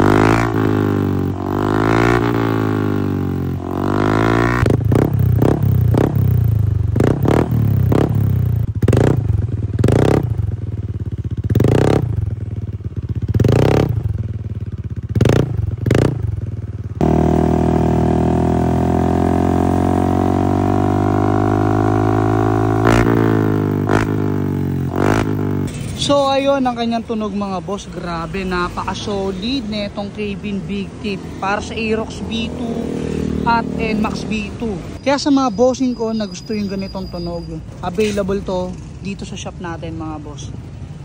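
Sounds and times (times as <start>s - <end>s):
scooter engine idling and revving: 0.0s - 41.0s.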